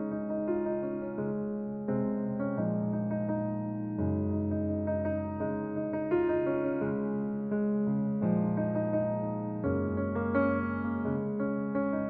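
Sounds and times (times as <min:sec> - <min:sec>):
soft electric piano chords: 0:00.0 - 0:12.0.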